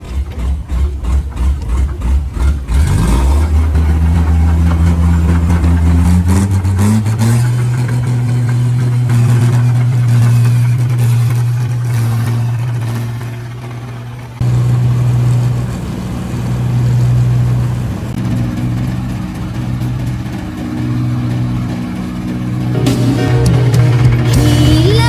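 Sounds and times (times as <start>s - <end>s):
machine engine running: 0.0s - 25.0s.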